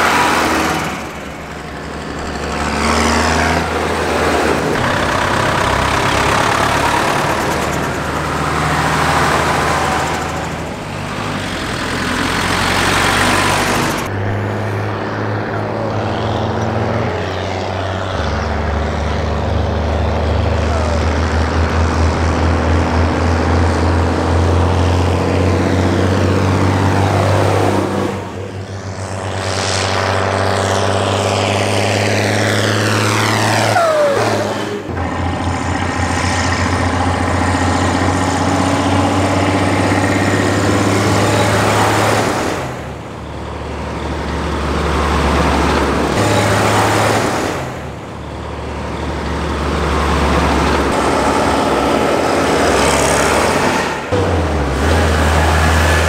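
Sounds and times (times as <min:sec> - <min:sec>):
tractors driving past: 0:00.0 - 0:56.0.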